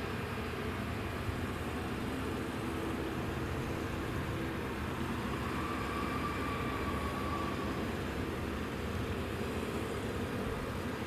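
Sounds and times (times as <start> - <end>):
airliner rumble: 0.0 - 11.0
faint thin whine: 0.0 - 11.0.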